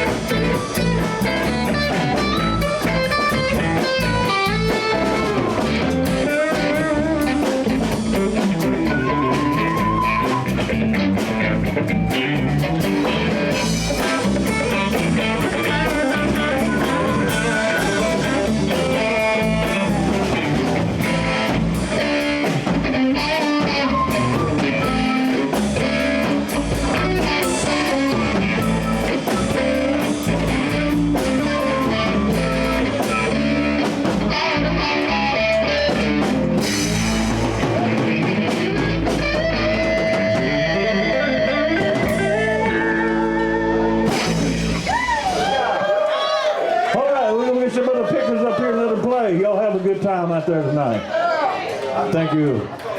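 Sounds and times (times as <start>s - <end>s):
electric guitar: 0.0s - 46.0s
blues band playing: 0.0s - 50.4s.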